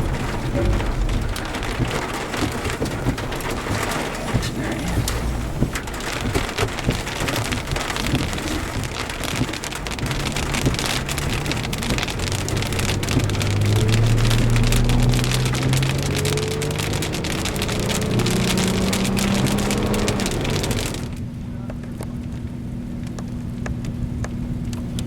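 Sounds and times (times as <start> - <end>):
heavy rain falling: 0.0 - 25.0
raindrops ticking: 0.0 - 25.0
vehicle engine humming: 0.0 - 25.0.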